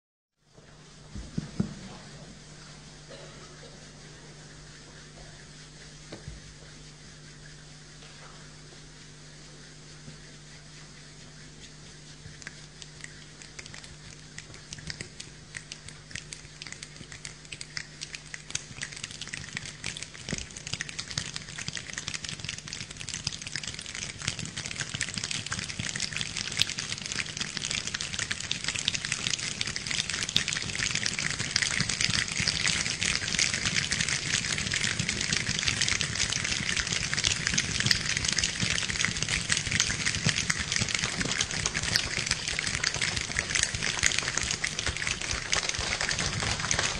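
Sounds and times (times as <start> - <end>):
hands pattering like rain: 1.0 - 46.9.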